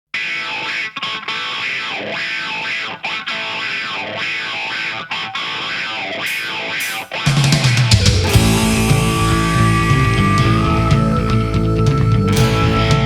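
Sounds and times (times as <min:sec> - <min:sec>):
distorted electric guitar: 0:00.2 - 0:13.0.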